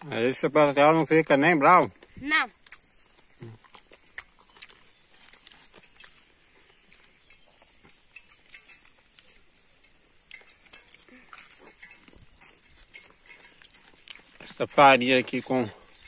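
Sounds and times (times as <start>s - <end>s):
chewing and crunching food: 0.0s - 16.0s.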